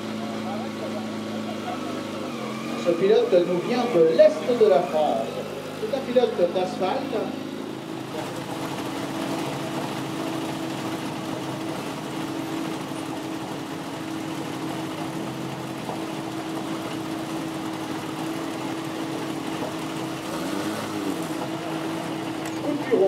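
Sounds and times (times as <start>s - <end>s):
rally car engine idling: 0.0s - 23.0s.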